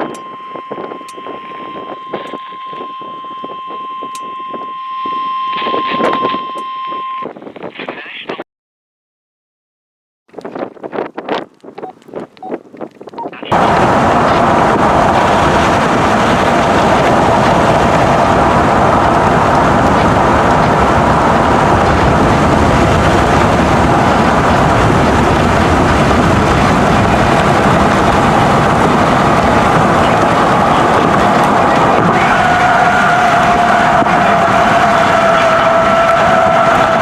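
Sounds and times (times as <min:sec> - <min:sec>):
warning siren steady tone: 0:00.0 - 0:07.4, 0:13.5 - 0:37.0
wind rumble on microphone: 0:00.0 - 0:08.4, 0:10.3 - 0:37.0.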